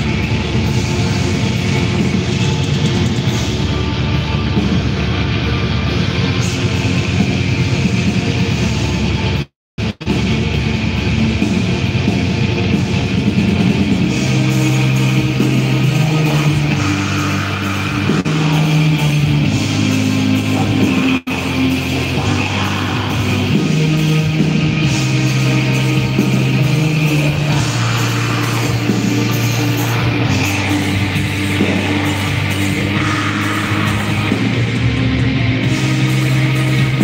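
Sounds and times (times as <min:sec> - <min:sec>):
metal band playing live: 0:00.0 - 0:37.0.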